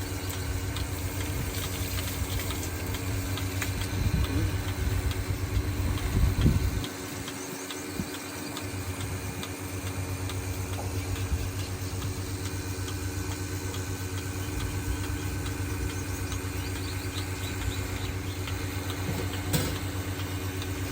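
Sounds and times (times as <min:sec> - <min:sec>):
engine humming with ticking: 0:00.0 - 0:20.9.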